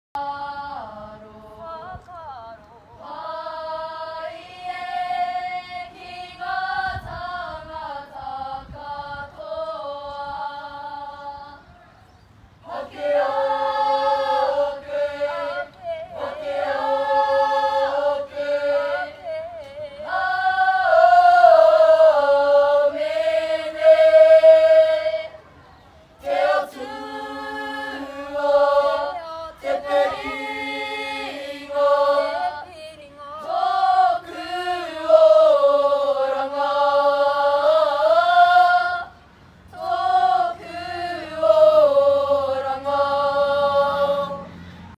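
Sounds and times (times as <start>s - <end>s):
students singing in unison: 0.2s - 11.7s, 12.6s - 25.4s, 26.2s - 45.0s.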